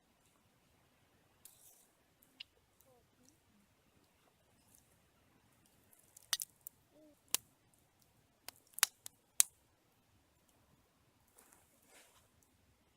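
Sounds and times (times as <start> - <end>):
campfire crackling: 1.3 - 12.9.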